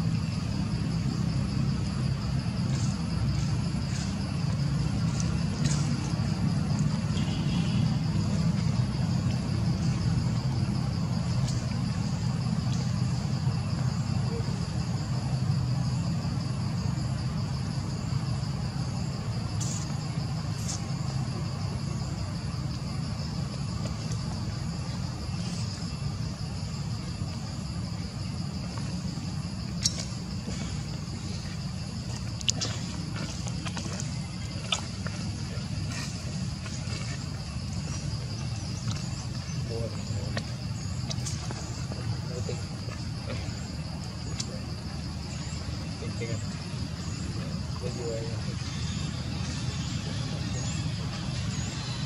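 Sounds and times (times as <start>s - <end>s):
insect chorus buzzing: 0.0s - 52.0s.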